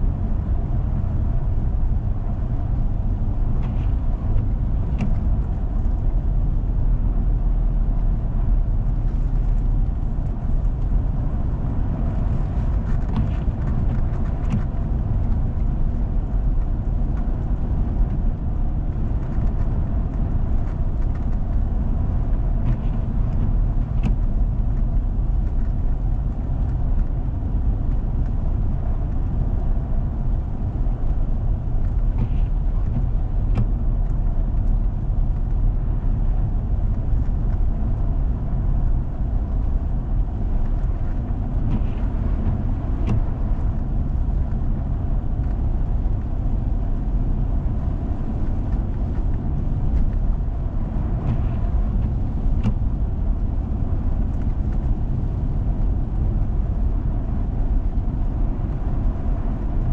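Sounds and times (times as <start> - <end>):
engine and tyres rumbling on snow: 0.0 - 59.9.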